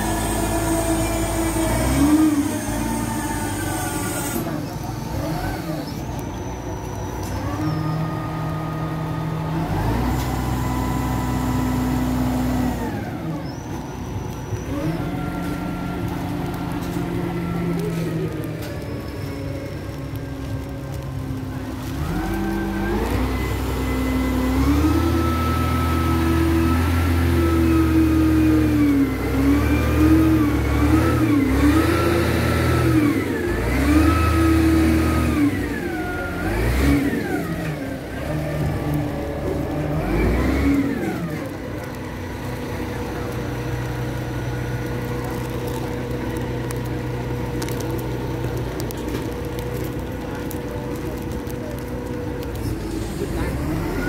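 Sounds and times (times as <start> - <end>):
truck engine revving and idling: 0.0 - 54.0.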